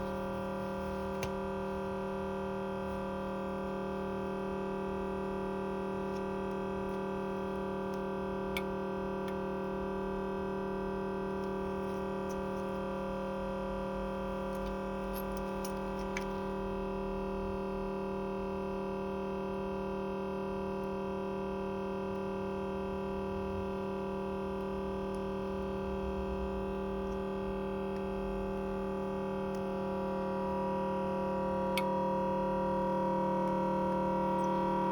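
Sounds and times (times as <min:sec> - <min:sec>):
steady hum of held tones: 0:00.0 - 0:34.9.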